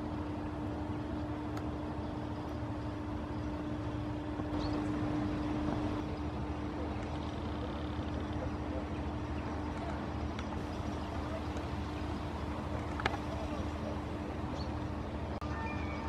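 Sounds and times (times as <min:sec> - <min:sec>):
low motor rumble: 0:00.0 - 0:16.0.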